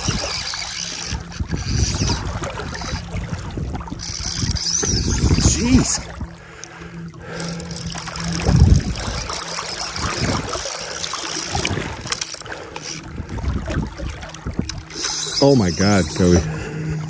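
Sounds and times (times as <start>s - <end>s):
fly reel clicking: 0.0s - 13.2s, 14.6s - 16.5s.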